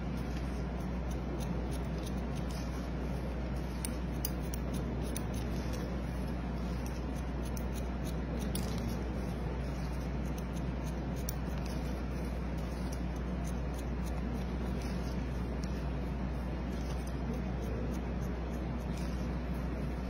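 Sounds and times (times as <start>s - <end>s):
steady low hum: 0.0s - 20.0s
scissors snipping hair: 0.3s - 20.0s.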